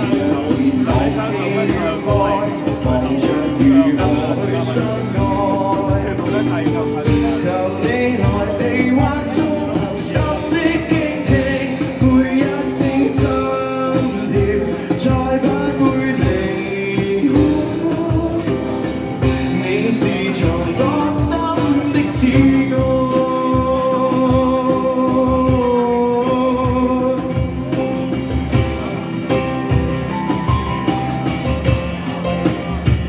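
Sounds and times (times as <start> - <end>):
live band playing pop ballad: 0.0 - 33.0
steady drum beat: 0.0 - 33.0.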